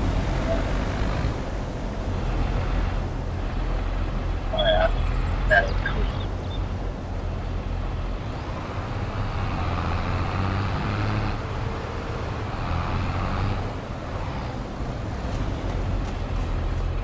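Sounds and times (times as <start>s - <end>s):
diesel harvester engine droning: 0.0s - 17.0s.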